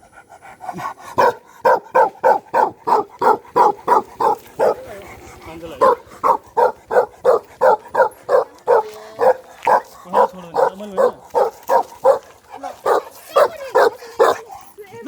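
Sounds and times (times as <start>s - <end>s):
dog barking: 0.7s - 14.6s.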